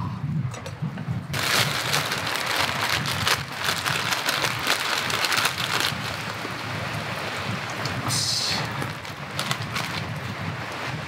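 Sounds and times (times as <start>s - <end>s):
heavy rain pattering: 1.3s - 11.0s.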